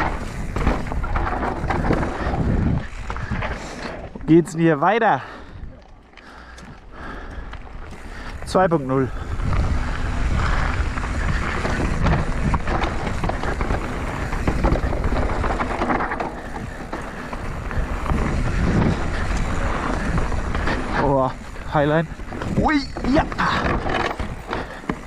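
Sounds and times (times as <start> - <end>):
wind buffeting microphone: 0.0 - 4.4, 6.6 - 25.0
bike rattling and knocking: 0.0 - 4.6, 6.2 - 25.0
tyres rushing on dirt: 0.0 - 5.6, 6.2 - 25.0.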